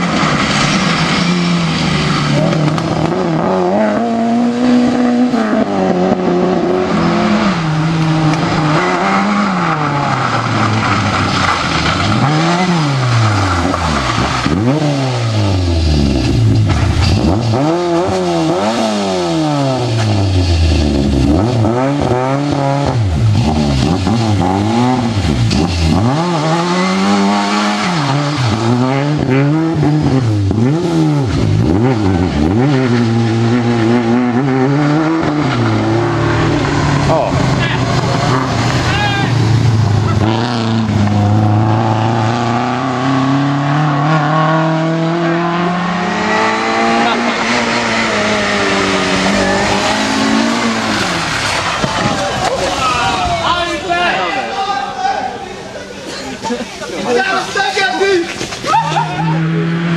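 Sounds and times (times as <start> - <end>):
rally car engine revving: 0.0 - 54.4, 58.3 - 59.9.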